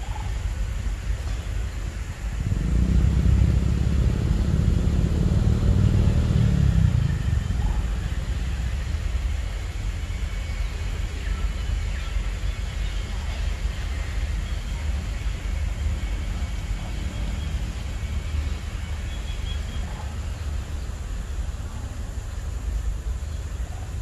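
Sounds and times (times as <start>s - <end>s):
low rumble: 0.0s - 24.0s
steady low background noise: 0.0s - 24.0s.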